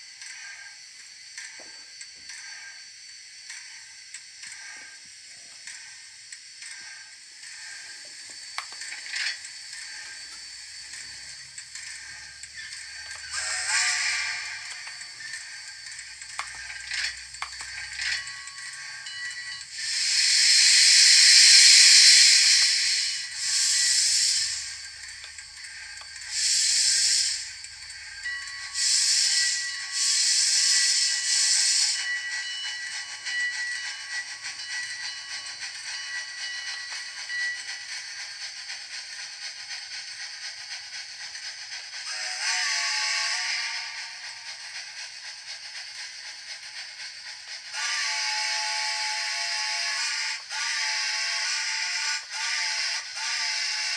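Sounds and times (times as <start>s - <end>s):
loud steam hiss: 2.3s - 53.9s.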